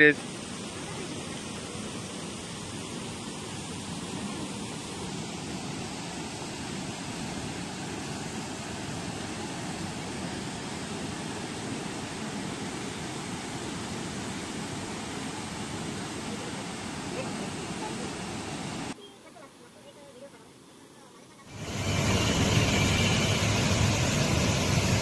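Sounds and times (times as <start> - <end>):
waterfall roaring: 0.0 - 19.0, 21.5 - 25.0.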